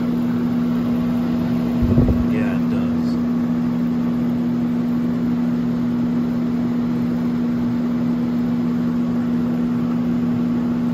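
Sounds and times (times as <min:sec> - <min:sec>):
air conditioner fan rushing: 0:00.0 - 0:10.9
constant low hum: 0:00.0 - 0:10.9.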